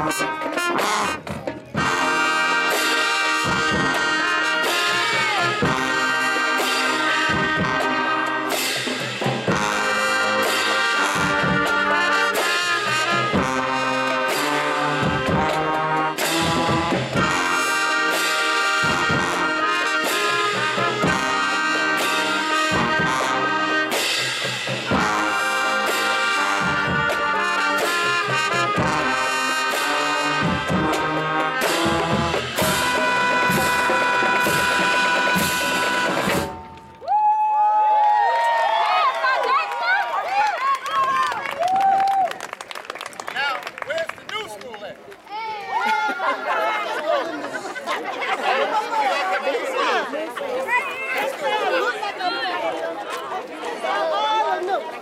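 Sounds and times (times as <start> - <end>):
marching band playing: 0.0 - 37.2, 45.9 - 54.9.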